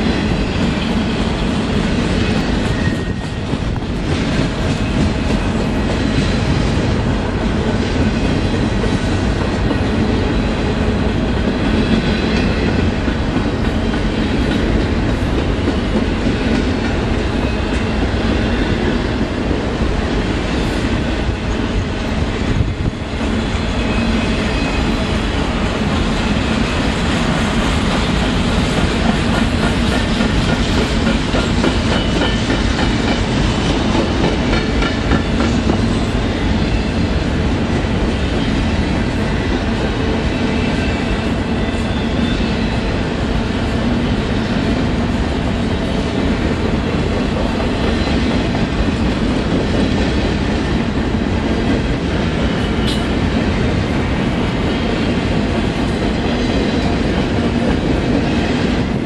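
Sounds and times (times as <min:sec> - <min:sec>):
freight train rumble: 0:00.0 - 0:59.0.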